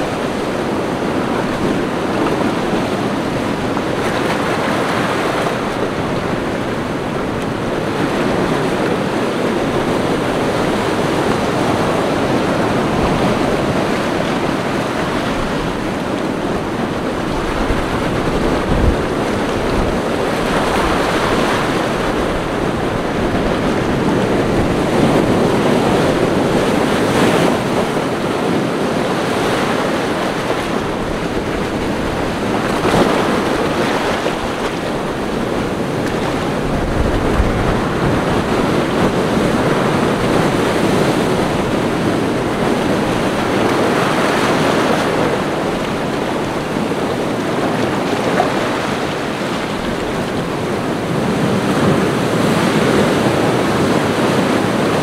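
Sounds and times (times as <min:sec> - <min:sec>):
waves breaking and washing ashore: 0:00.0 - 0:55.0
wind buffeting microphone: 0:00.0 - 0:55.0.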